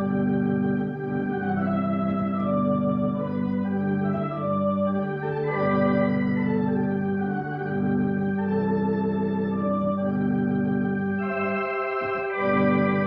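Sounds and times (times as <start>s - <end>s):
theatre organ chords: 0.0s - 13.0s.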